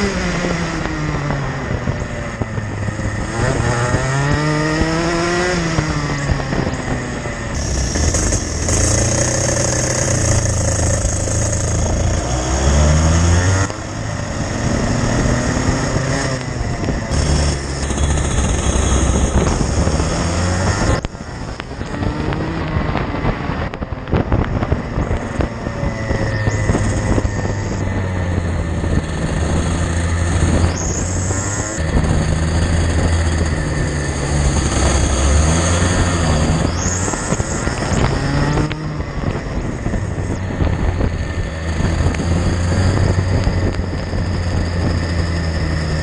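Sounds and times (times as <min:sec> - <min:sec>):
racing kart engine revving: 0:00.0 - 0:46.0.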